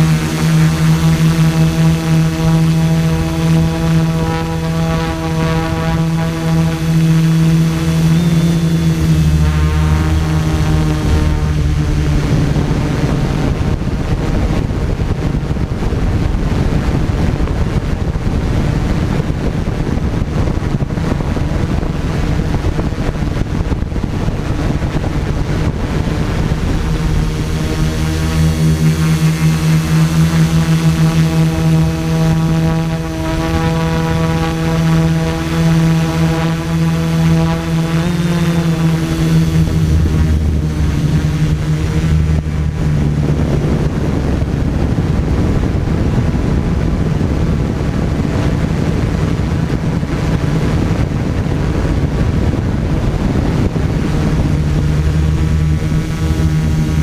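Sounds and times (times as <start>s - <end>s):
drone propellers droning: 0.0s - 57.0s
wind noise on microphone: 0.0s - 57.0s.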